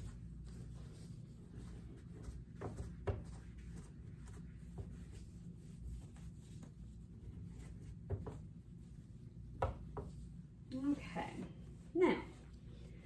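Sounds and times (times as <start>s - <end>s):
cloth wiping a whiteboard: 0.0s - 13.0s.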